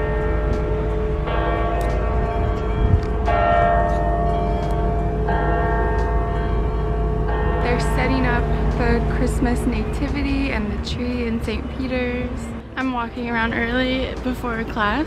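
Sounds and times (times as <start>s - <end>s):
church bells ringing: 0.0s - 15.0s
steady low rumble: 0.0s - 15.0s.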